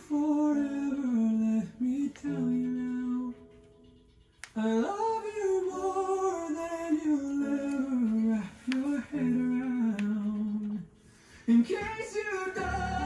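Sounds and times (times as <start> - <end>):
man singing pop ballad: 0.0 - 3.4, 4.6 - 13.0.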